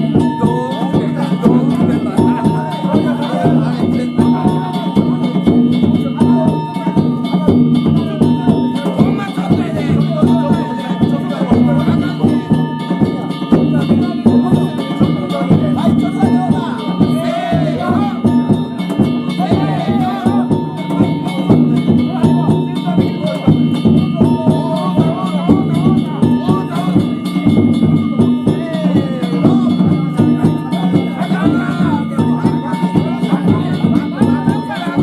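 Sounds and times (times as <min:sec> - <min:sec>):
drums: 0:00.0 - 0:35.0
small metal gongs clanging: 0:00.0 - 0:35.0.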